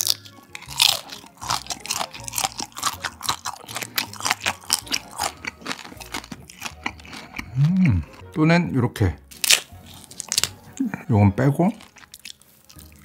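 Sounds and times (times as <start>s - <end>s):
crunching shrimp shell: 0.0s - 8.3s, 9.3s - 10.7s, 11.7s - 13.0s.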